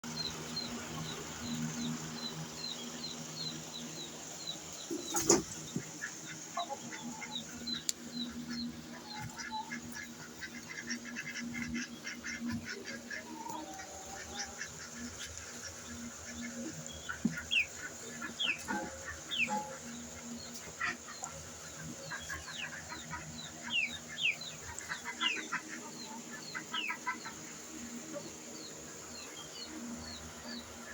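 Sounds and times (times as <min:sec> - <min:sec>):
chicks peeping: 0:00.0 - 0:30.9
hens clucking: 0:00.1 - 0:30.9.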